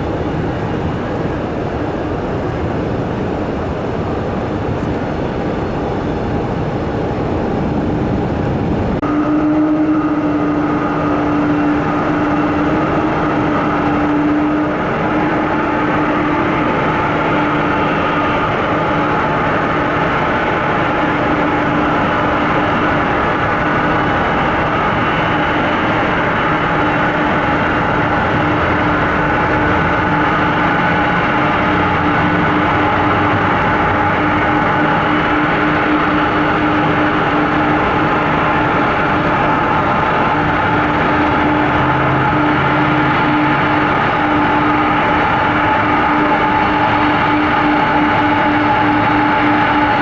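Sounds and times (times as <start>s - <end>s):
jet engine whine: 0.0s - 50.0s
jet engines roaring: 0.0s - 50.0s.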